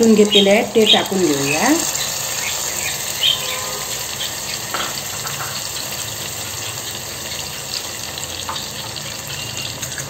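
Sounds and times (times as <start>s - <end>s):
tomatoes sizzling in hot oil: 0.0s - 10.0s.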